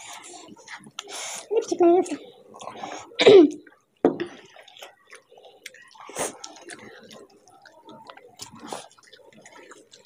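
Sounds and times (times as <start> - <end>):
wet squishing of hand eating: 0.0 - 10.0.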